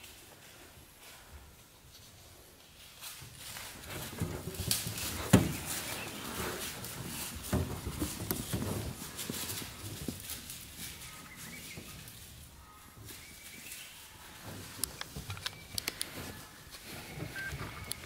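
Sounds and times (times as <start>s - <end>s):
rustling in dry leaves: 0.0s - 18.0s.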